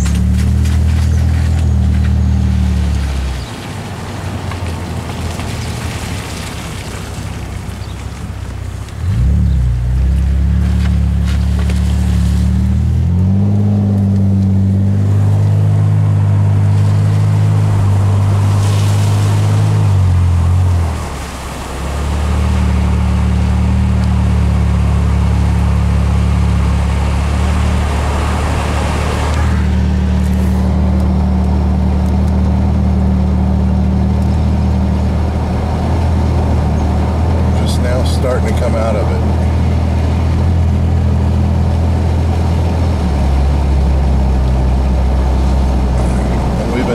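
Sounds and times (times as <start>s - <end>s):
car engine: 0.0s - 46.9s
road noise: 0.0s - 46.9s.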